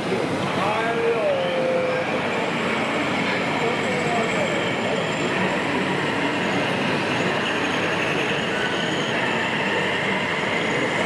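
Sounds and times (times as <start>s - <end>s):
busy indoor hall din: 0.0s - 11.0s.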